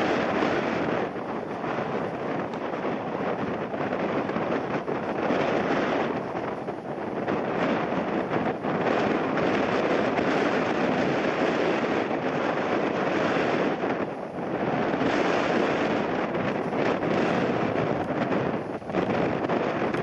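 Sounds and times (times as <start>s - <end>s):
airliner jet noise: 0.0s - 20.0s
gusting wind on microphone: 0.0s - 20.0s.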